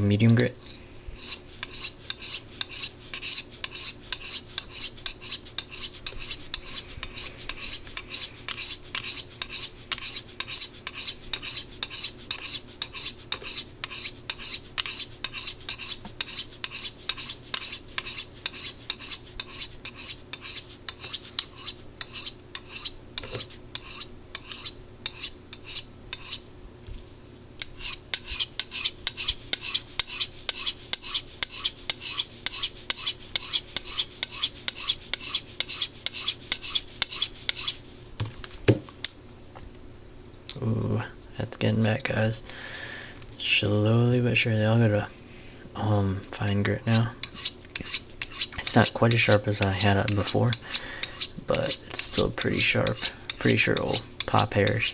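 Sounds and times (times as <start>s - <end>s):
knife rasping on sharpening rod: 0.4s - 26.4s, 27.6s - 37.8s, 46.5s - 54.9s.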